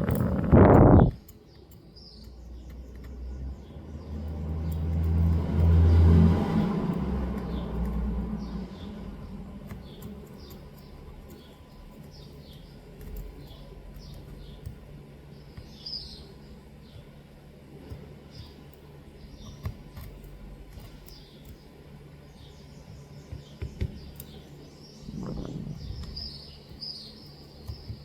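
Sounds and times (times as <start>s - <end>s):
low engine rumble: 0.0s - 28.0s
small birds chirping: 0.0s - 28.0s.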